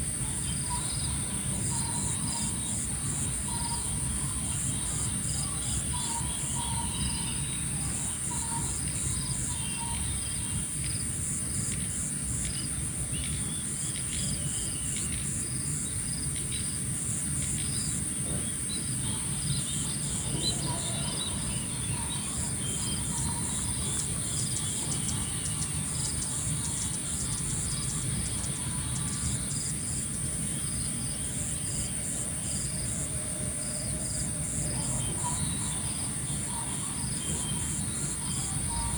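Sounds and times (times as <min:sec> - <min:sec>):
constant low rumble: 0:00.0 - 0:38.9
insects shrilling and chirping: 0:00.0 - 0:38.9
birds calling: 0:00.1 - 0:38.9.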